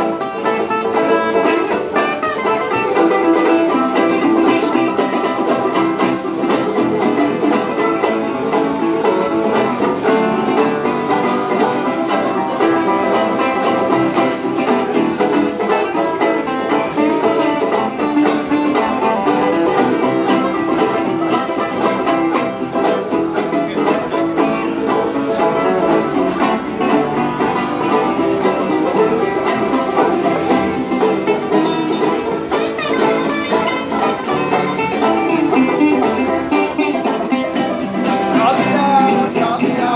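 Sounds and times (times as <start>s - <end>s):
acoustic guitar: 0.0s - 39.9s
banjo: 0.0s - 39.9s
plucked string instruments: 0.0s - 39.9s.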